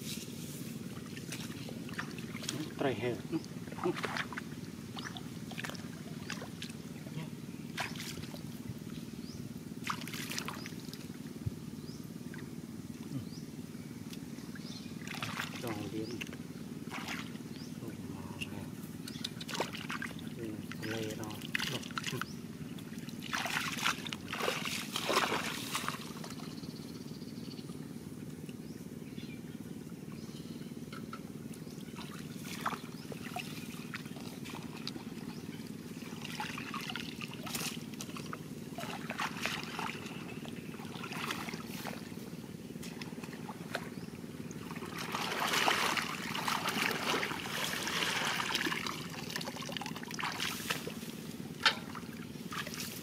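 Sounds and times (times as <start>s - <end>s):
muddy water splashing and sloshing: 0.0s - 11.6s, 14.0s - 26.7s, 31.4s - 53.0s
steady low hum: 0.0s - 53.0s
feet wading through water: 0.8s - 9.0s, 9.8s - 11.4s, 14.1s - 17.7s, 18.9s - 26.6s, 31.5s - 53.0s.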